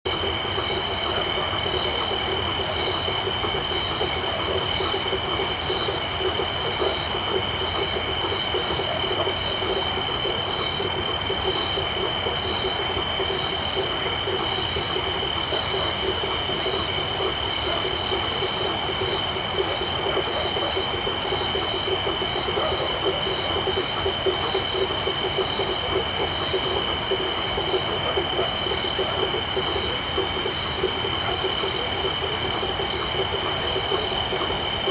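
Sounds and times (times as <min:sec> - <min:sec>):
rapid pulsing frog calls: 0:00.1 - 0:34.9.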